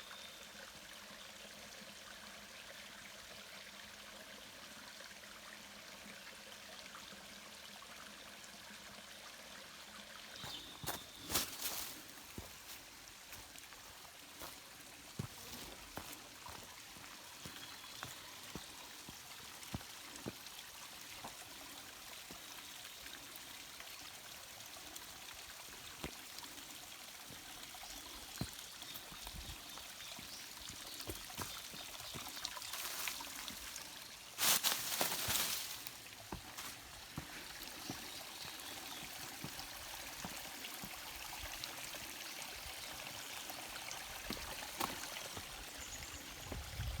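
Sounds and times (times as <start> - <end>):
stream running over rocks: 0.0 - 47.0.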